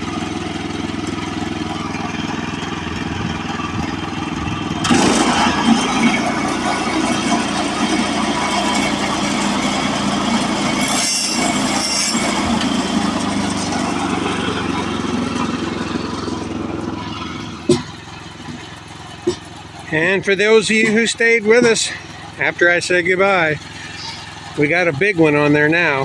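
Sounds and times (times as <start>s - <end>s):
gas engine running: 0.0s - 26.0s.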